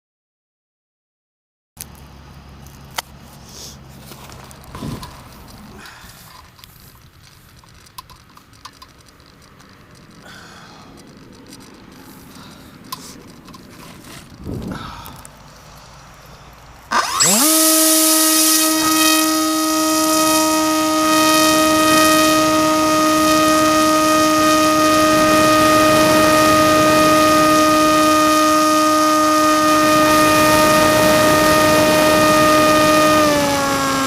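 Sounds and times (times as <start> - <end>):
small motor propeller whine: 1.9 - 34.0.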